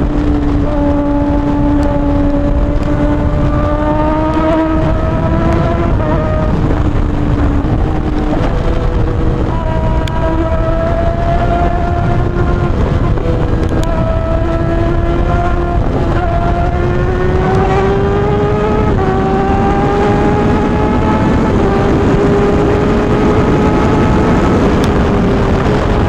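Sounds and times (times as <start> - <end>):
motorcycle engine pulling through gears: 0.0 - 26.0
wind rumble on microphone: 0.0 - 26.0.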